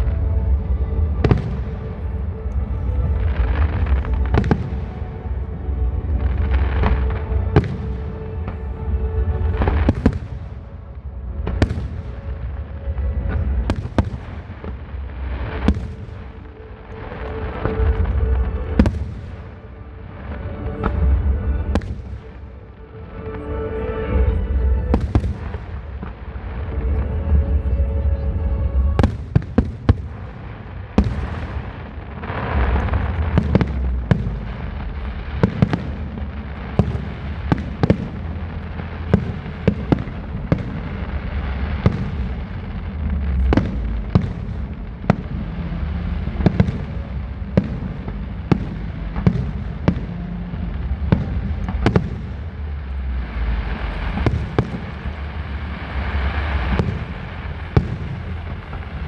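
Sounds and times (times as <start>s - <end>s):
fireworks hissing crackle: 0.0s - 24.0s, 24.9s - 27.2s, 28.9s - 59.0s
low rumble: 0.0s - 59.0s
fireworks bursting bangs: 1.0s - 5.4s, 6.1s - 8.6s, 9.3s - 10.8s, 11.4s - 12.6s, 13.2s - 19.8s, 20.8s - 22.6s, 24.9s - 26.2s, 29.0s - 59.0s.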